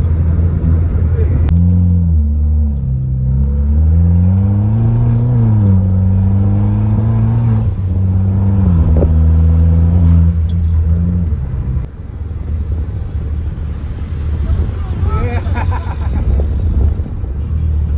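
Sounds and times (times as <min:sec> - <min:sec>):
car engine accelerating: 0:00.0 - 0:17.9.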